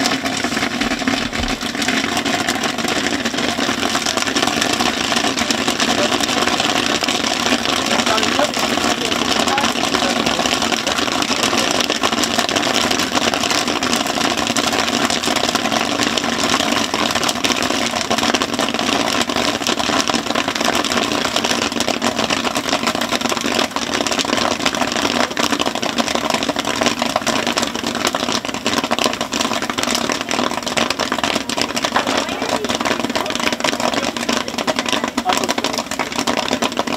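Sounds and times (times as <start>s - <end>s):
popcorn crackling and pattering: 0.0s - 36.9s.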